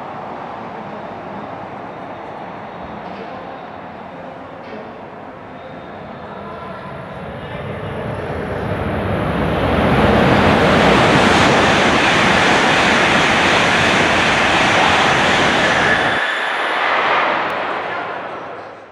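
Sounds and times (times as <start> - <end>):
high-speed train rushing past: 0.0 - 18.9.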